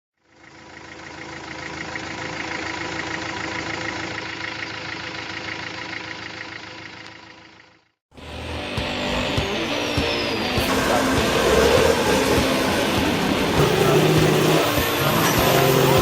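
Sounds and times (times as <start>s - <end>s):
diesel truck engine idling: 0.2s - 8.0s, 9.0s - 16.0s
loud vehicle sound: 0.2s - 16.0s.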